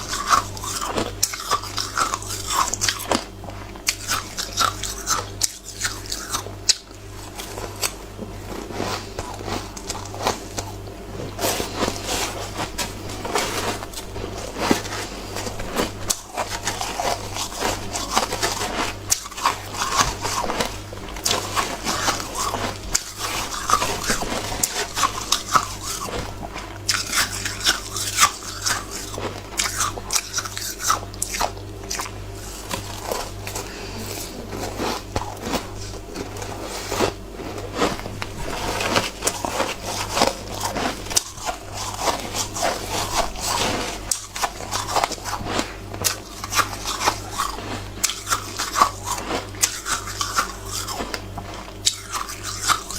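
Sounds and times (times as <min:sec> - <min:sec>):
ice crunching being chewed: 0:00.0 - 0:52.9.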